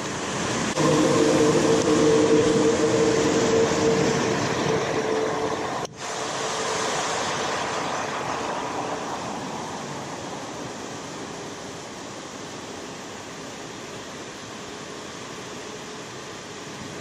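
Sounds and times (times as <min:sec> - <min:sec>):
droning hum: 0:00.0 - 0:17.0
water rushing down spillway: 0:00.0 - 0:17.0.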